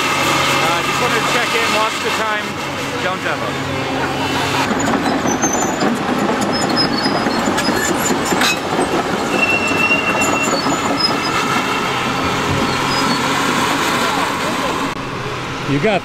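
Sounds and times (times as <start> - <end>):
demolition machinery clattering: 0.0 - 15.0
high metal squeals: 0.4 - 15.2.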